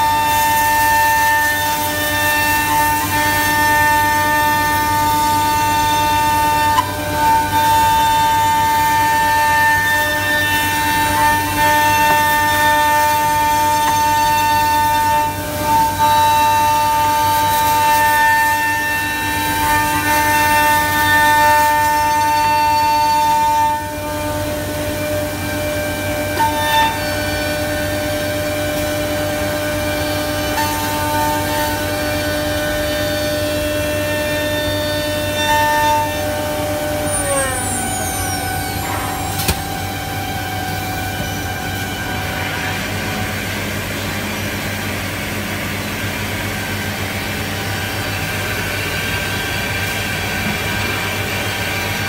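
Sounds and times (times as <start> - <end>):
boring machine spindle whine: 0.0 - 52.0.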